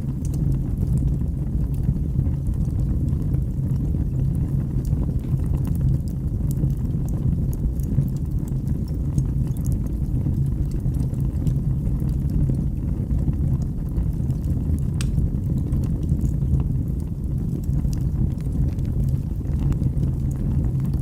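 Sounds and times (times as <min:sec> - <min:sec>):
fire crackles and pops: 0:00.0 - 0:21.0
low rumble of fire flames: 0:00.0 - 0:21.0.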